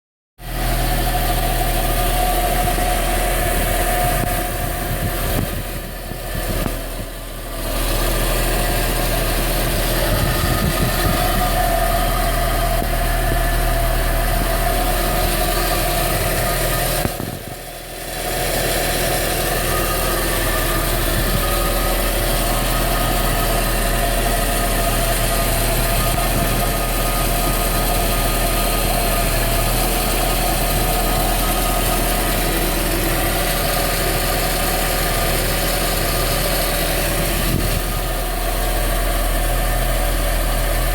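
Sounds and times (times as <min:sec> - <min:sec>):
car engine idling: 0:00.4 - 0:40.9
persistent tone over engine hum: 0:00.4 - 0:40.9.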